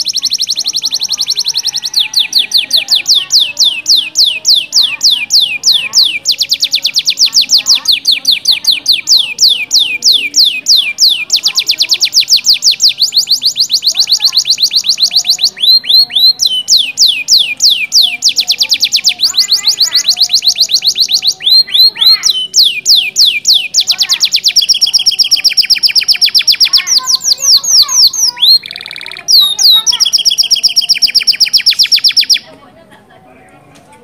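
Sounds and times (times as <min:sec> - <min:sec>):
canary singing trills: 0:00.0 - 0:32.6.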